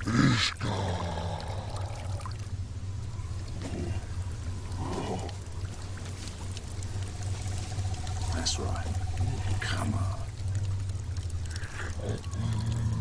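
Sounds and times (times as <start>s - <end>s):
low drone: 0.0s - 13.0s
water trickling and dripping: 0.0s - 13.0s.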